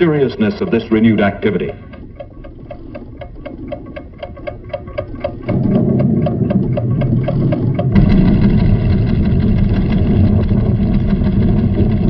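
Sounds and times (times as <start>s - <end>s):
seismograph ticking: 0.0s - 12.0s
deep steady volcano rumble: 1.8s - 12.0s.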